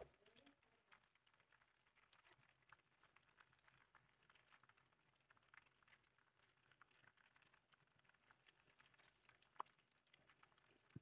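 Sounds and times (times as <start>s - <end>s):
faint small ticks and clicks: 0.0s - 11.0s.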